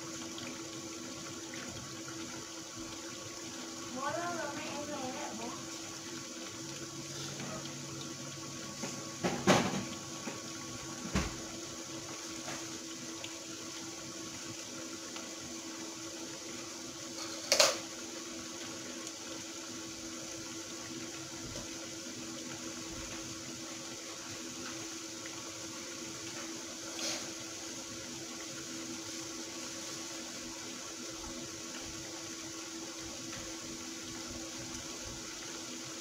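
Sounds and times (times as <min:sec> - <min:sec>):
oil sizzling: 0:00.0 - 0:36.0.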